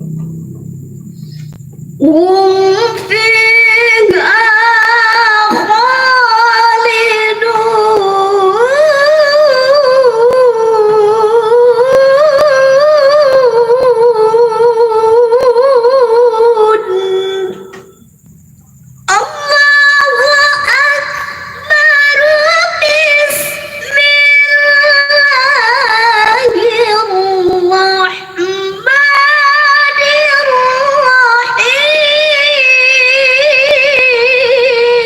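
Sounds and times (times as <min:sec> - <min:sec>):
woman reciting melodically: 0:00.0 - 0:18.1, 0:18.9 - 0:35.0.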